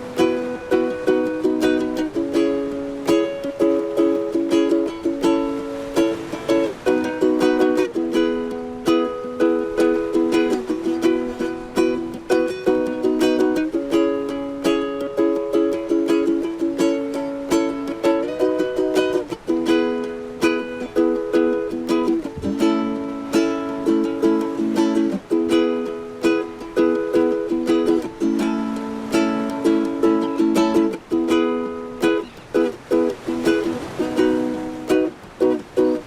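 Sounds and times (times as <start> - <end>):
ukulele strumming: 0.0 - 36.0.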